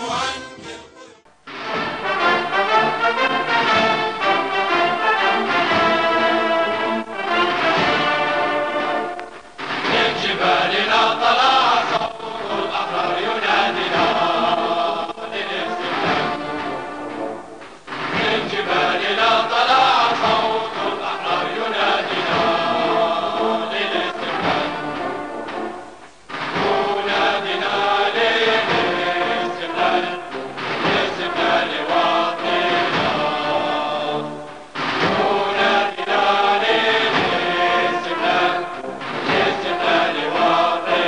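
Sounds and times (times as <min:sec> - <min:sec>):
choir singing: 0:00.0 - 0:41.0
musical backing: 0:00.0 - 0:41.0.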